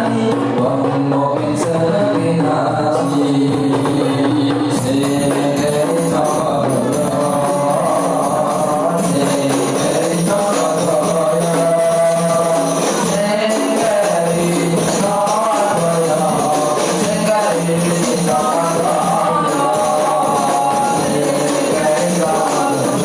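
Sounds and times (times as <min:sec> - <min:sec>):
frame drums playing: 0:00.0 - 0:23.0
group singing a chant: 0:00.0 - 0:23.0.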